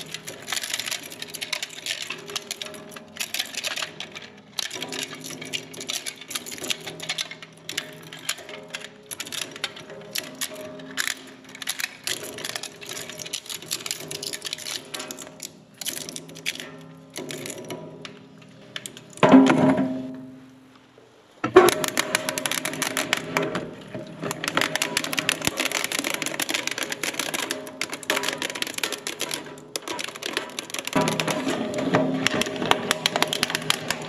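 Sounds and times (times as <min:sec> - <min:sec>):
plastic shredder cracking plastic: 0:00.0 - 0:19.5, 0:21.4 - 0:34.0.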